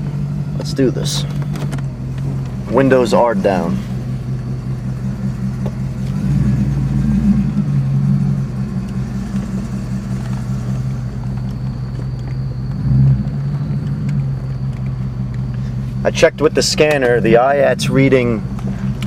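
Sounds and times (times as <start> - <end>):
car engine and exhaust driving: 0.0 - 19.0.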